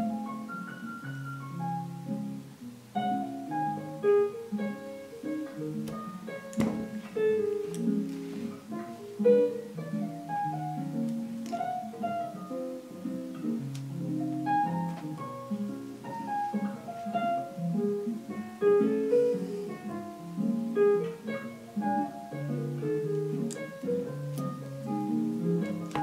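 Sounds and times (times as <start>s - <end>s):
background music melody: 0.0s - 26.0s.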